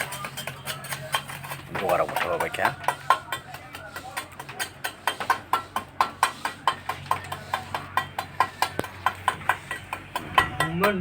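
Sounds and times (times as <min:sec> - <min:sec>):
hand tool tapping hard material: 0:00.0 - 0:11.0.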